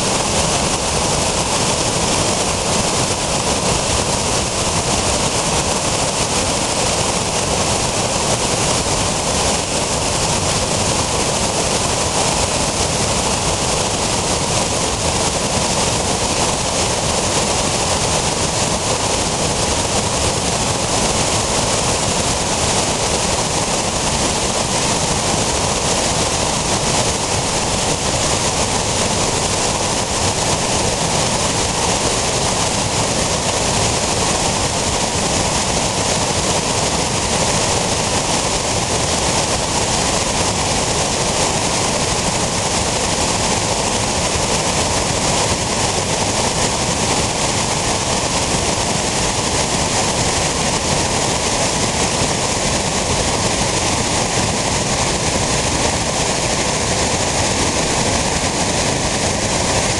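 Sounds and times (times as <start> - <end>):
water pouring over rocks: 0.0 - 57.5.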